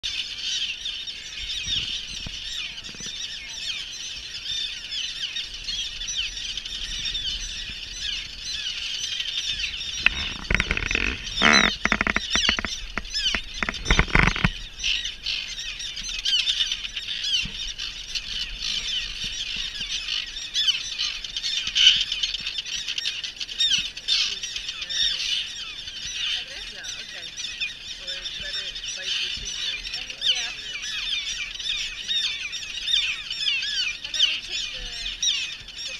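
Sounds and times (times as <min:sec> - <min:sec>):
terns calling: 0:00.0 - 0:35.9.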